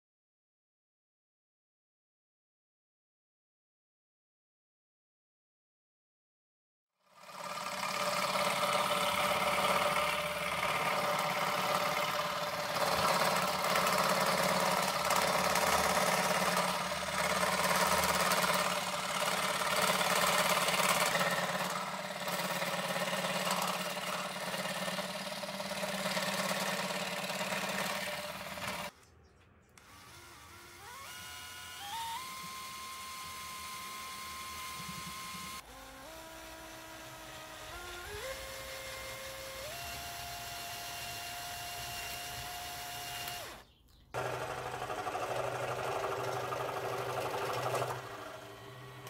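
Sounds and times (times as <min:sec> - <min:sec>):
scroll saw cutting wood: 0:07.1 - 0:29.0, 0:29.8 - 0:49.0
electric drill whine: 0:07.2 - 0:28.9, 0:29.8 - 0:49.0.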